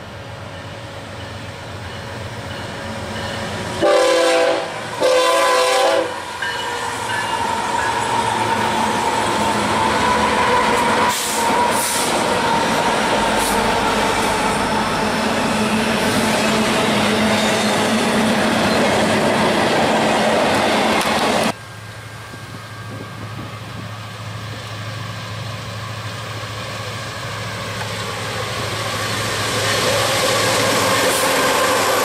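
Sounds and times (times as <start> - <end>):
diesel locomotive engine drone: 0.0 - 32.0
train wheels on rails: 0.0 - 32.0.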